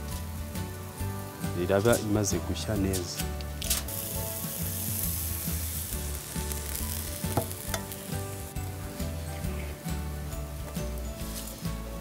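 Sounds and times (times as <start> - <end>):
sizzling on charcoal grill: 0.0 - 12.0.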